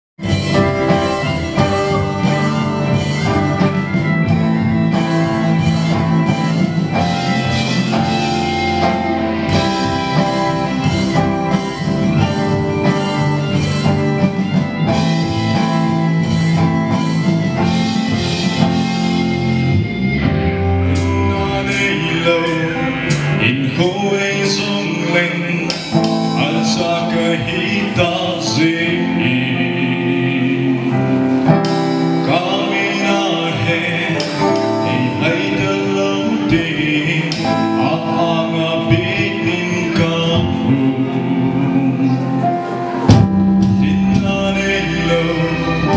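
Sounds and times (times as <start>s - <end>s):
gospel band with guitar: 0.2s - 45.9s
person singing: 0.2s - 45.9s.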